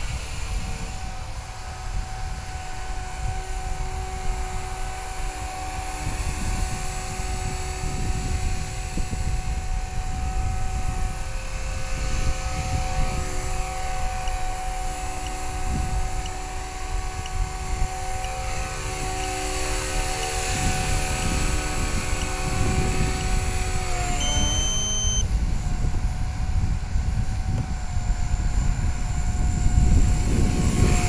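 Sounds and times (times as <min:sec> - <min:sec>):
rc helicopter motor whine: 0:00.0 - 0:31.0
wind on microphone: 0:00.0 - 0:31.0.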